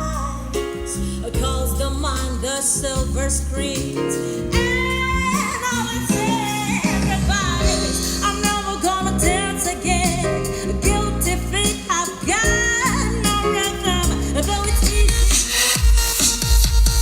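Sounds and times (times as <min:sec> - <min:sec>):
song through car speakers: 0:00.0 - 0:17.0.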